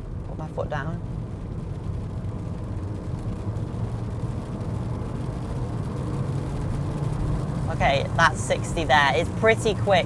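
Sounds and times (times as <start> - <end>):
car engine accelerating: 0.0 - 10.0
road noise: 0.0 - 10.0.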